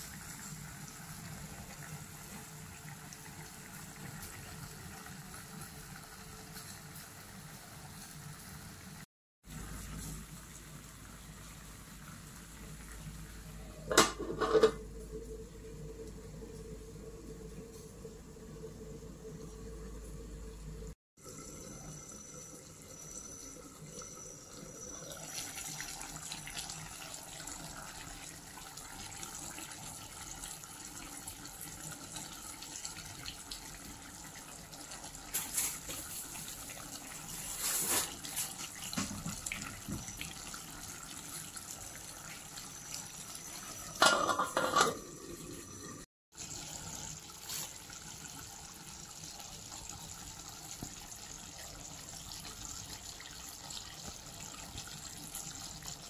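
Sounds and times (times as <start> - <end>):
pot simmering hiss: 0.0 - 56.0.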